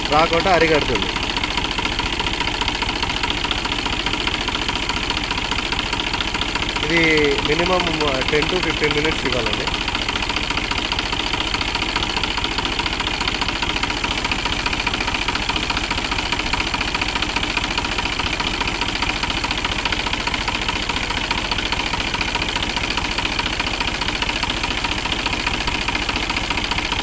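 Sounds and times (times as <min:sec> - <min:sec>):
diesel tractor engine idling: 0:00.0 - 0:27.0.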